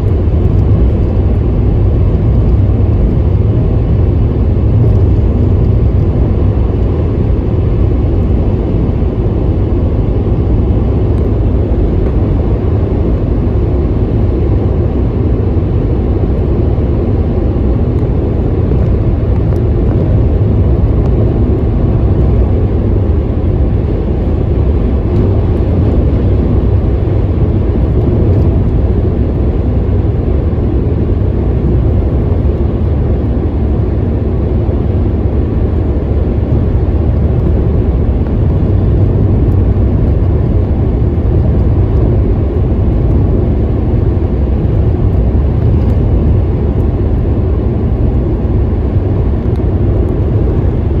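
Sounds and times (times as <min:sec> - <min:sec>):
car rumble from inside cabin: 0:00.0 - 0:51.0.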